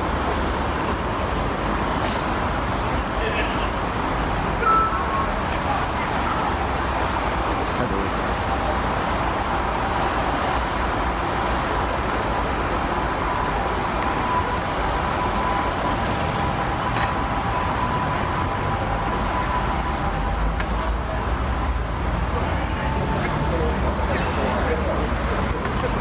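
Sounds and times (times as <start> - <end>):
road vehicles passing: 0.0 - 26.0.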